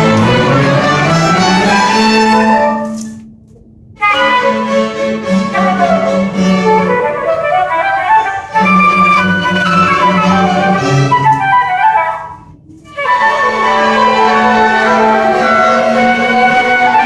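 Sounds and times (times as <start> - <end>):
orchestra playing: 0.0 - 3.2, 4.0 - 17.0.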